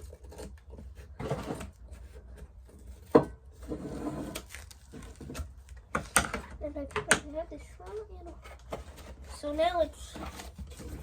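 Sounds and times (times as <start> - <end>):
paper rustling and scraping: 0.0 - 6.2, 7.9 - 11.0.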